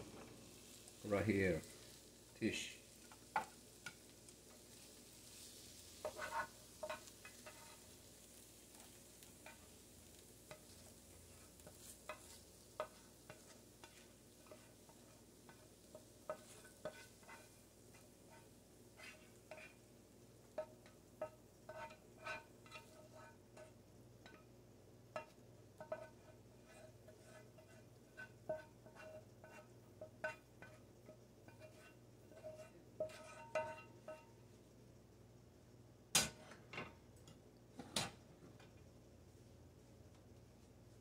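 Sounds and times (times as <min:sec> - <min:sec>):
utensil scraping a frying pan: 0:00.0 - 0:24.5, 0:25.1 - 0:34.4.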